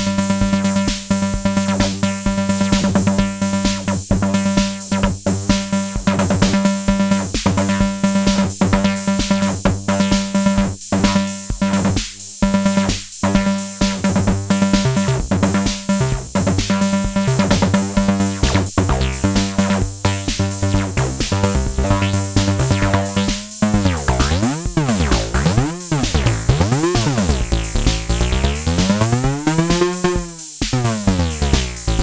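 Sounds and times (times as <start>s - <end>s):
drum machine beat: 0.0s - 32.0s
synthesizer bass pattern: 0.0s - 32.0s.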